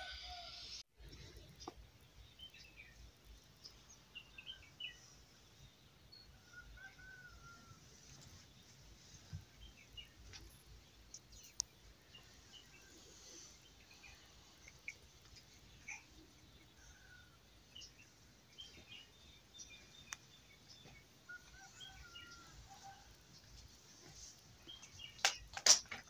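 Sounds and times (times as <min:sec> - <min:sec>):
faint bird chirps and calls: 0:00.0 - 0:25.4.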